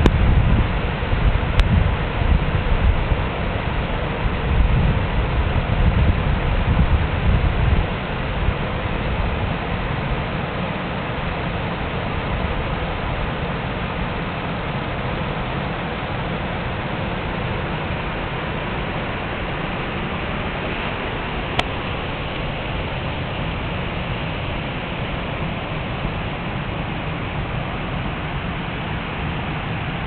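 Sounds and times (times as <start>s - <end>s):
river water rushing over rocks: 0.0s - 30.0s.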